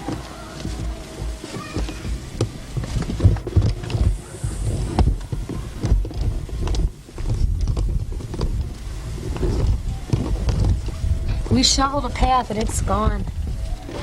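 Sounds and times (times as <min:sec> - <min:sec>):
scattered knocks: 0:00.0 - 0:14.0
wind buffeting microphone: 0:00.0 - 0:14.0.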